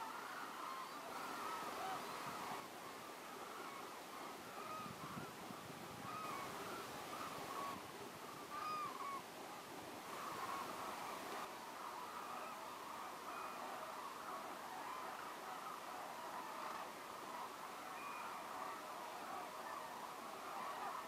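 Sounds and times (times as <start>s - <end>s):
flock of cranes calling: 0.0s - 21.0s.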